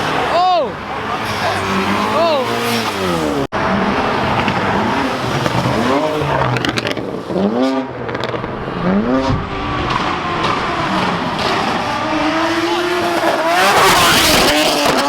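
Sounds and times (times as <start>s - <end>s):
car engine accelerating hard: 1.0s - 15.0s.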